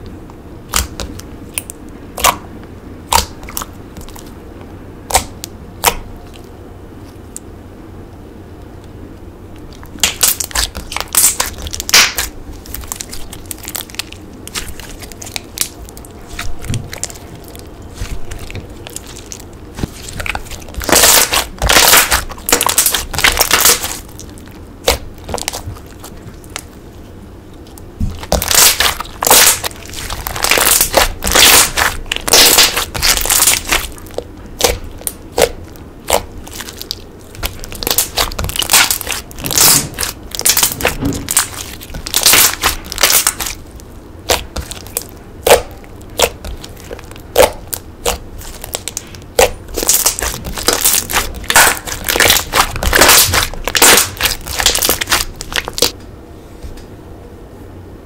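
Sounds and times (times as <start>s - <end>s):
slime crackling and popping: 0.7s - 2.4s, 3.1s - 4.3s, 5.1s - 6.4s, 9.6s - 26.8s, 27.7s - 56.0s.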